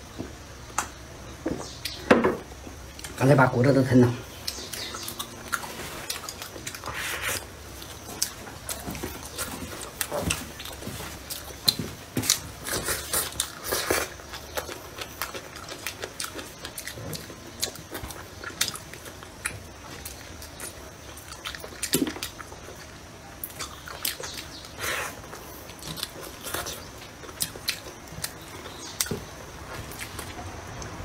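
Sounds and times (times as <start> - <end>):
wet chewing and slurping: 4.5 - 30.9.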